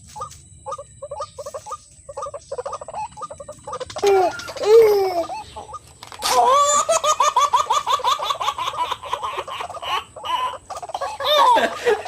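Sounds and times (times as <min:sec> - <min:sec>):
bird calling with chattering notes: 0:00.0 - 0:12.0.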